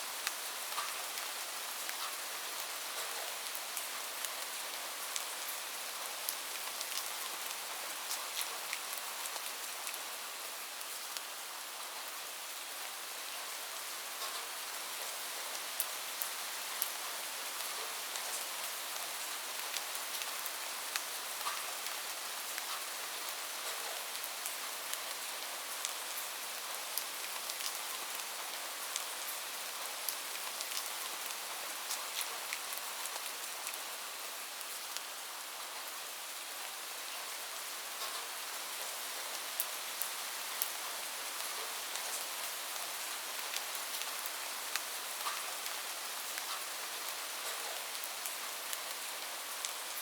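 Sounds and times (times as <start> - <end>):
rain falling on a roof: 0.0 - 50.0.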